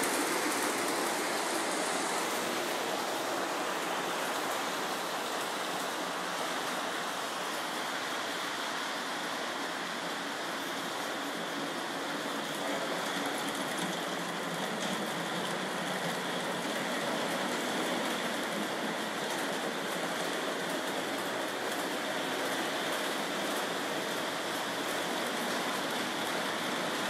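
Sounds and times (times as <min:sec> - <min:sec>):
toy train running on track: 0:00.0 - 0:27.0.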